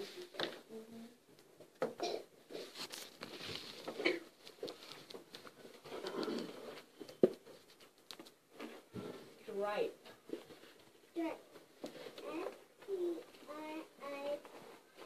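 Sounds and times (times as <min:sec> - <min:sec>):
faint rustling: 0:02.4 - 0:15.0.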